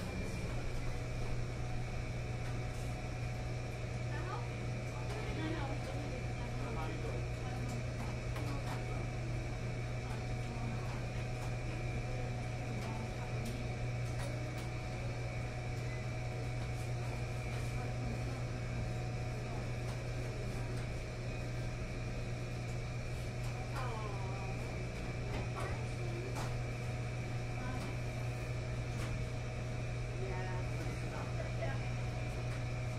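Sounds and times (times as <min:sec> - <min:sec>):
low hum of running machines: 0:00.0 - 0:32.9.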